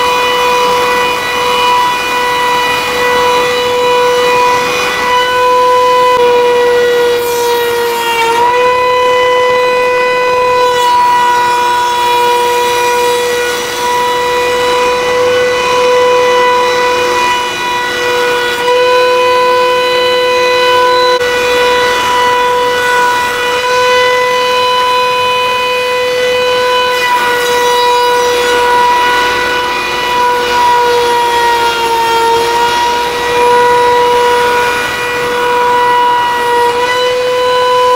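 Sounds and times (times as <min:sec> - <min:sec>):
router spindle high-pitched whine: 0:00.0 - 0:37.9.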